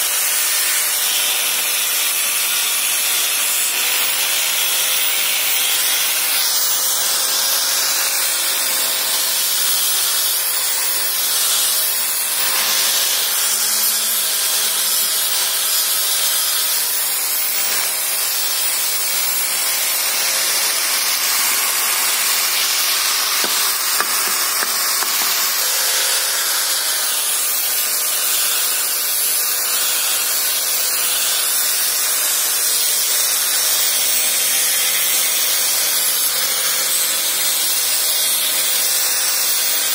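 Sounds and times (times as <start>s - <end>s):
faint grinder motor whine: 0.0s - 39.9s
sanding disc rasping on wood: 0.0s - 39.9s.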